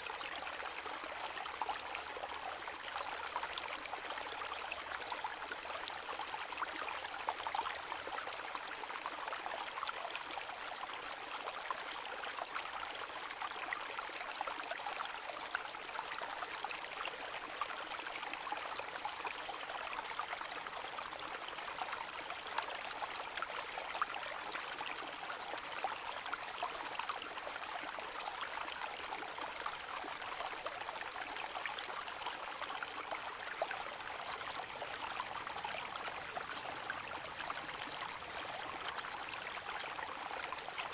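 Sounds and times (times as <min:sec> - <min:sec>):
brook babbling: 0:00.0 - 0:40.9.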